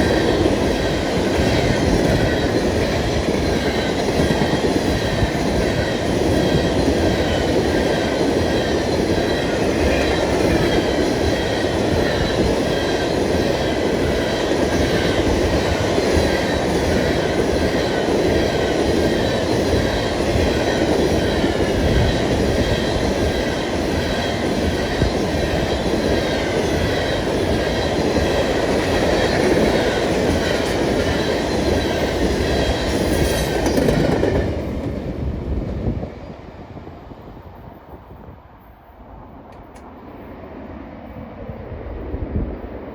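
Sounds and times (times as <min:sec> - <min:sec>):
clickety-clack over rail joints: 0:00.0 - 0:38.4, 0:39.2 - 0:42.6
freight train wheels rumbling on rail: 0:00.0 - 0:42.9.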